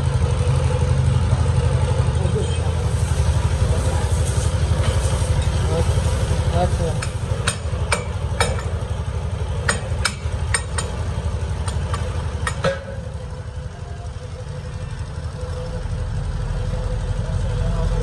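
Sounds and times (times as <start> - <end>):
low machine drone: 0.0 - 18.0.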